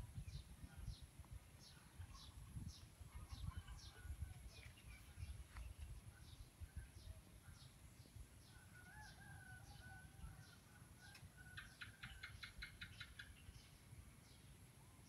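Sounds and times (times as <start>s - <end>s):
faint distant birds calling: 0.1s - 15.0s.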